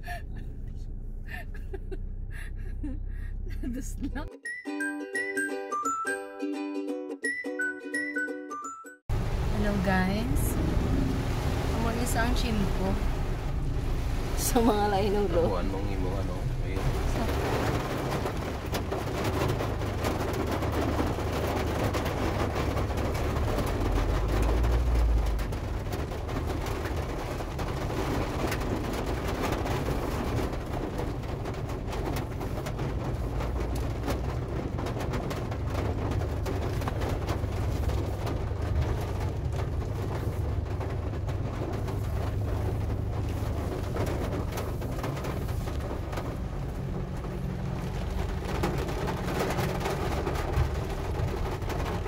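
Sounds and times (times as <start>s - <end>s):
engine and road rumble: 0.0s - 4.4s, 9.0s - 52.0s
rain hitting car roof: 9.1s - 52.0s.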